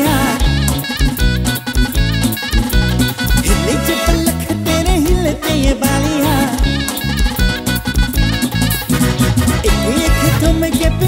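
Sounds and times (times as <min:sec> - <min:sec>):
live band dance music: 0:00.0 - 0:11.0.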